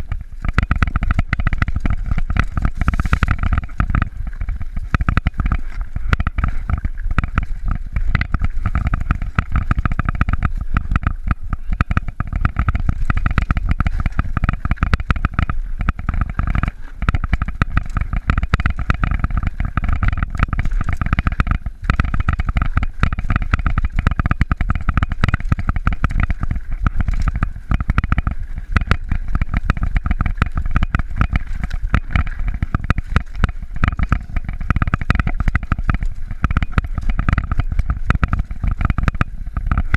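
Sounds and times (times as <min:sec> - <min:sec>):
mountain bike rumble and rattling: 0:00.0 - 0:39.9.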